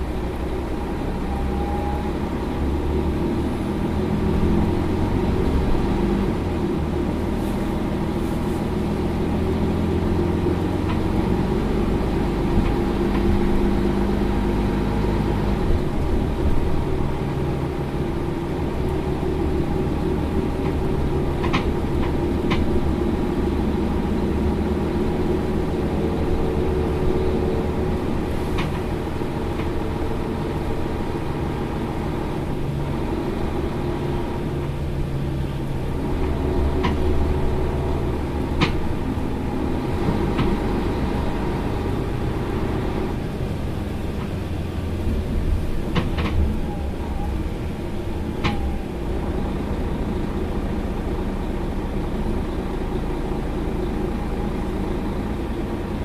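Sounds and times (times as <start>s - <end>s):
bus diesel engine idling: 0.0s - 56.0s.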